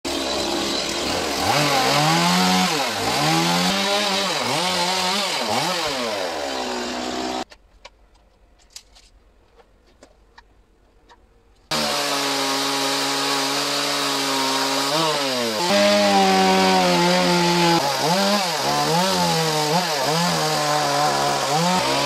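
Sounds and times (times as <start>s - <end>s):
chainsaw cutting log: 0.1s - 7.5s, 11.7s - 22.0s.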